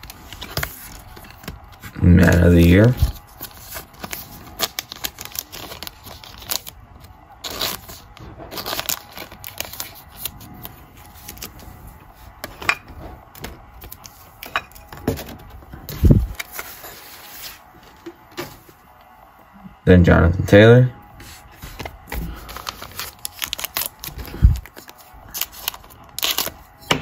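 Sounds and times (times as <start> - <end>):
foil wrapper crinkling: 0.0 - 17.6, 21.4 - 26.8.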